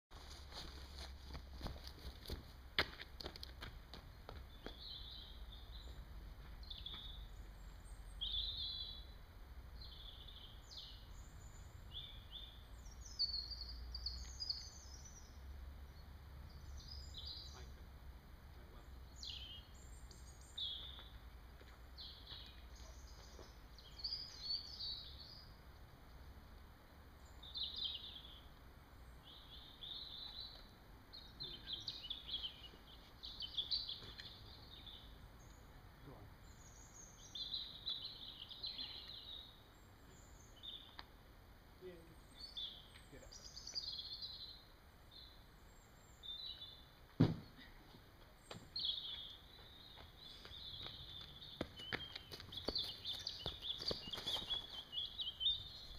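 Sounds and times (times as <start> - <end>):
small songbirds chirping: 4.0 - 55.9.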